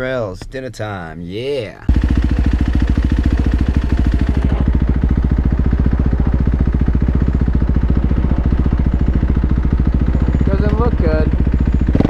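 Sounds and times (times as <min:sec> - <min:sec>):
dirt bike engine idling: 0:01.9 - 0:12.0.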